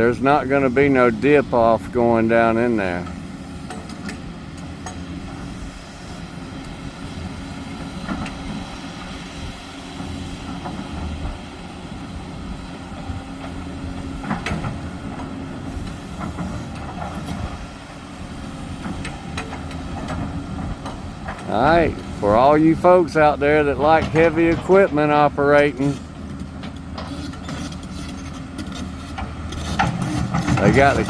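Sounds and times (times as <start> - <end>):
diesel engine rumble: 0.0 - 31.0.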